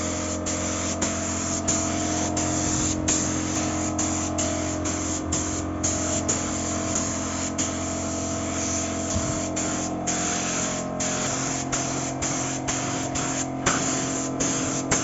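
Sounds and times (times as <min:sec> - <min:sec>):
spray-paint can hissing: 0:00.0 - 0:15.0.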